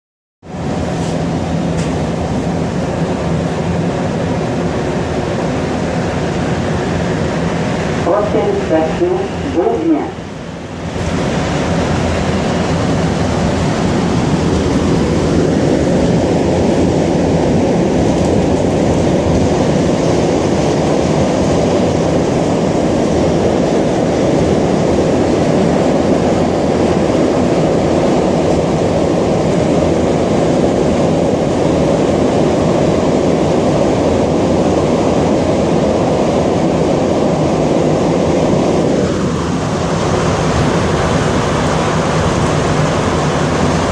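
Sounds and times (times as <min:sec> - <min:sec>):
metro train rumbling in tunnel: 0:00.4 - 0:43.9.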